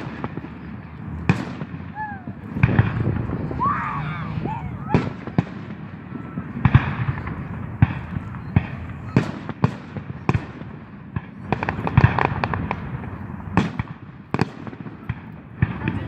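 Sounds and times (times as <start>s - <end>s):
fireworks bangs and crackling pops: 0.0s - 16.0s.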